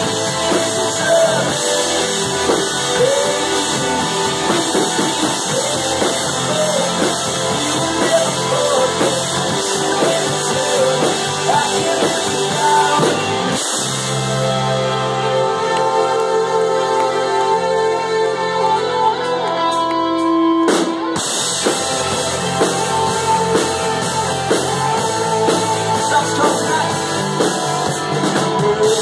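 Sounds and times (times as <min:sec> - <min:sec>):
rock band playing: 0:00.0 - 0:29.0.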